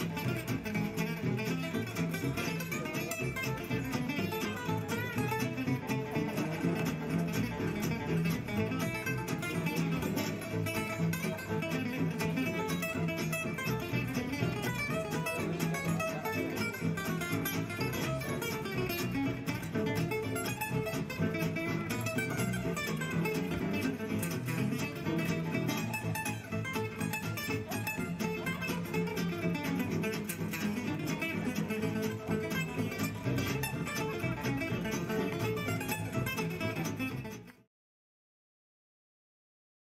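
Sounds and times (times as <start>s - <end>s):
plucked acoustic guitar: 0.0s - 37.7s.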